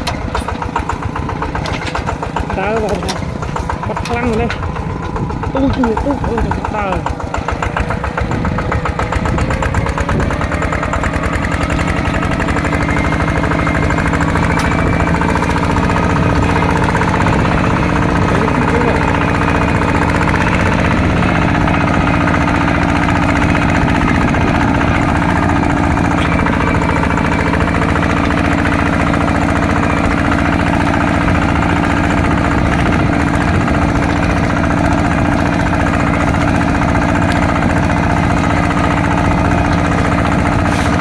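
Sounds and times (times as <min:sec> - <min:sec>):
small diesel engine knocking: 0:00.0 - 0:41.0.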